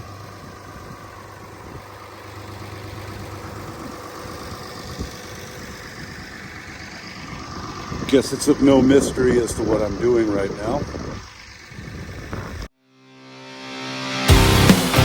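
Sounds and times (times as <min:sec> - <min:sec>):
truck engine idling: 0:00.0 - 0:12.7.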